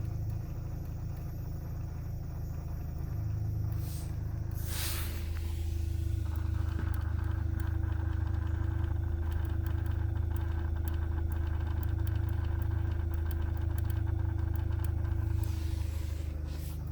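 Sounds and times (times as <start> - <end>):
car engine low hum: 0.0 - 16.9
faint irregular ticking: 0.0 - 16.9.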